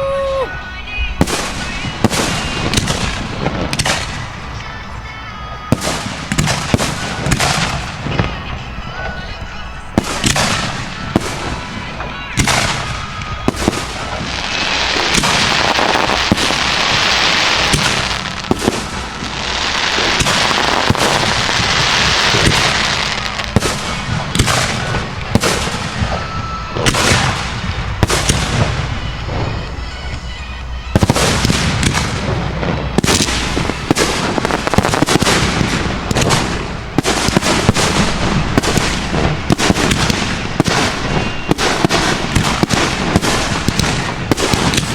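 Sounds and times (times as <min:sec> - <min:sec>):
fireworks firing and bursting: 0:00.0 - 0:44.9.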